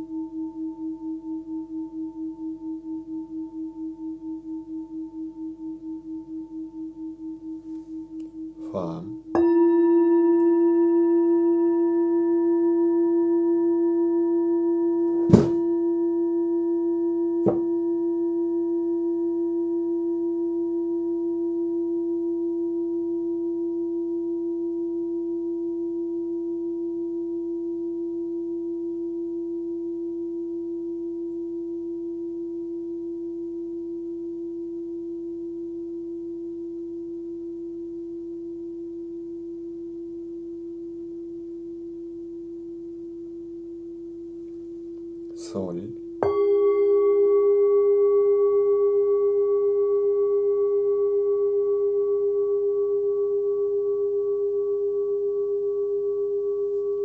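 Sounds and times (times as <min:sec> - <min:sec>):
singing bowl ringing: 0:00.0 - 0:57.0.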